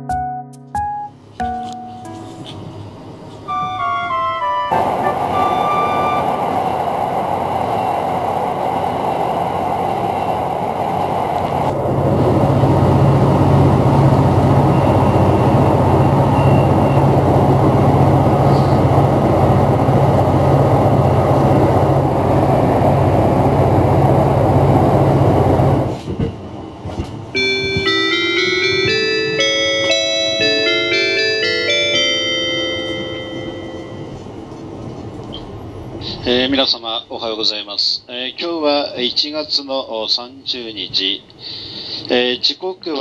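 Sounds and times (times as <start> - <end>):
train rumbling at speed: 2.0 - 42.5.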